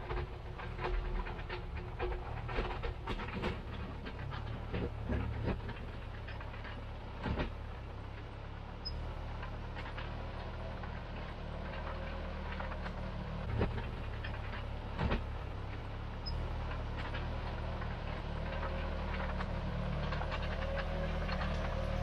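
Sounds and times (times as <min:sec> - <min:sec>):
dozer engine running: 0:00.0 - 0:22.0.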